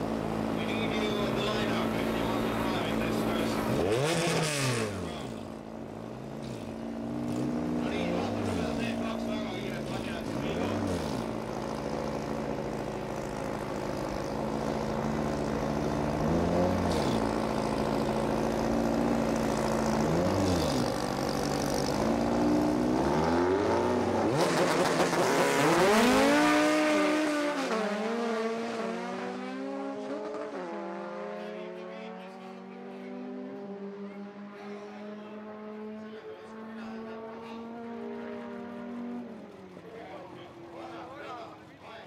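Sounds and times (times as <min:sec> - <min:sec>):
cars accelerating hard: 0:00.0 - 0:39.7
race car engines idling and revving: 0:00.0 - 0:42.0.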